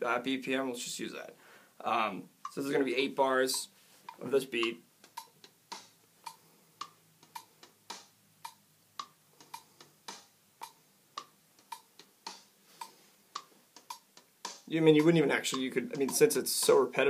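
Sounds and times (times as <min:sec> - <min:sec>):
drum beat from small speaker: 0:02.4 - 0:17.0.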